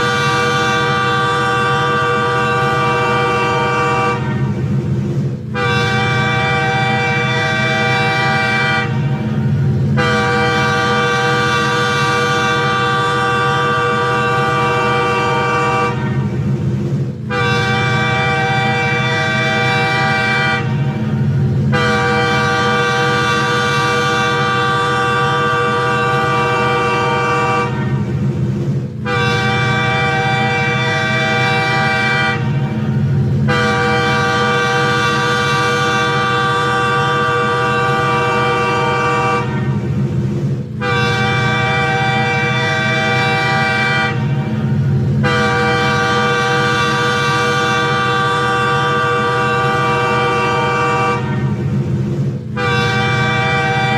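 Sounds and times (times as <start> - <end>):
train horn blasts: 0.0 - 53.9.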